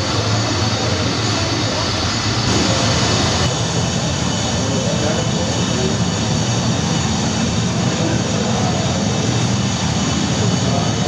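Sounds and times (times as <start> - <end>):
jet engine over loudspeakers: 0.0 - 11.0.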